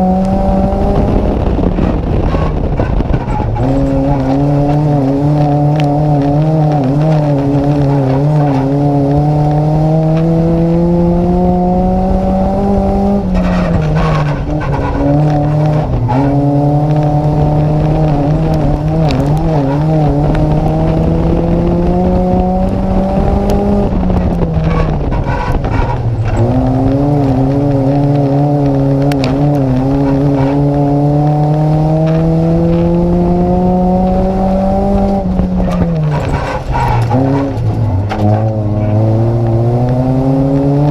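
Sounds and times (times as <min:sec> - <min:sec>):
race car engine revving: 0:00.0 - 0:40.9
knocks and rattles: 0:00.7 - 0:10.4, 0:12.8 - 0:33.0, 0:34.2 - 0:39.6.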